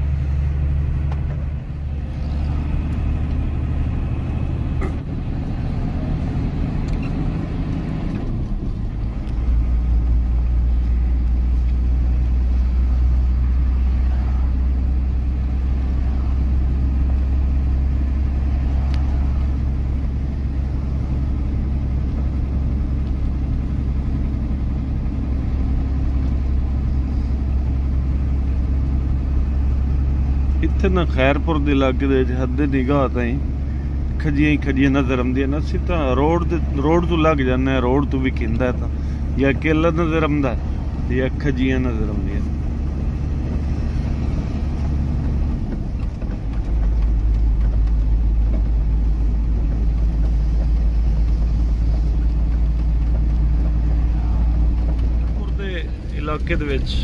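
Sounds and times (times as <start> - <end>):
truck diesel engine running: 0.0 - 57.0
tyre and road noise: 0.0 - 57.0.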